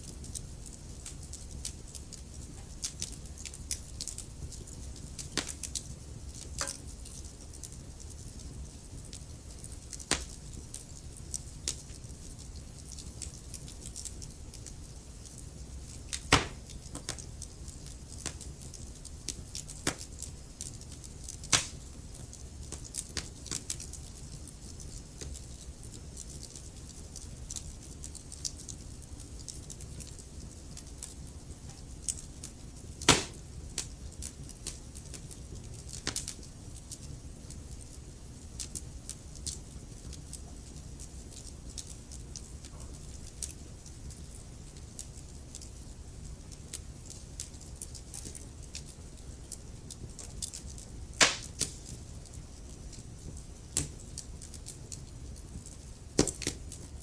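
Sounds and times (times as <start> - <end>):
logs crackling and popping: 0.0 - 57.0
low rumble of flame: 0.0 - 57.0.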